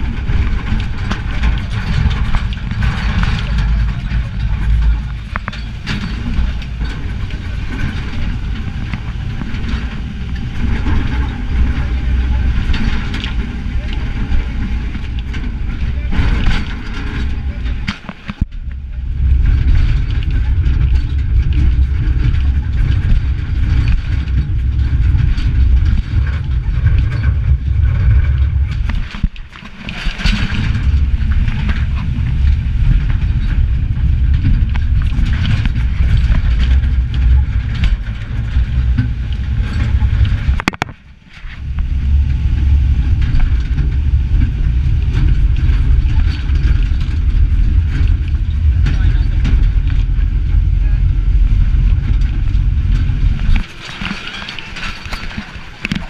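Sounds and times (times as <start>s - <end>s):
rattling: 0.0s - 56.0s
truck rumbling on dirt road: 0.0s - 56.0s.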